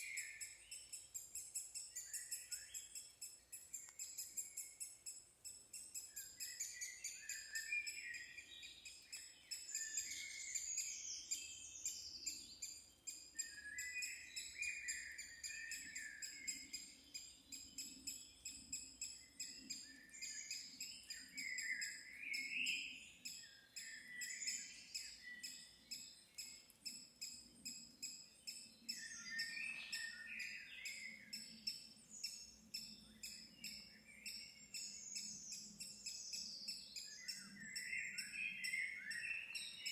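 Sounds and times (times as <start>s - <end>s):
birds chirping and singing: 0.0s - 5.0s, 6.0s - 26.4s, 27.5s - 39.9s.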